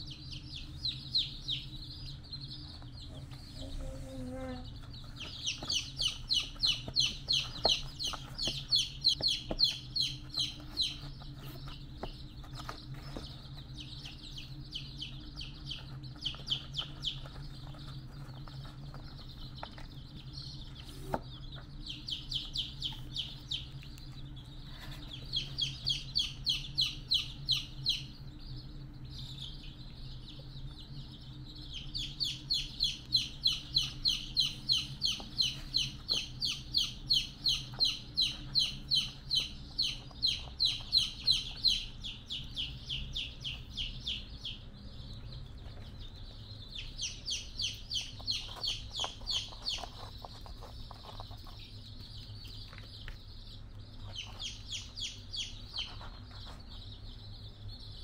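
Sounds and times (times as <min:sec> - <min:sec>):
bird chirping: 0:00.0 - 0:58.0
steady low hum: 0:00.0 - 0:58.0.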